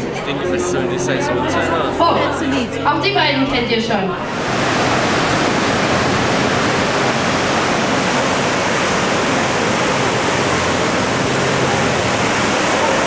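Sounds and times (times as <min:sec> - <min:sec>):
water churning along ship hull: 0:00.0 - 0:13.0.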